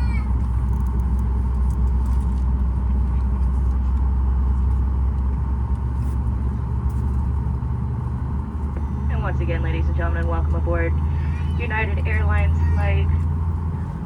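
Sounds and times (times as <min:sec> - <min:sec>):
airplane cabin low rumble: 0:00.0 - 0:14.0.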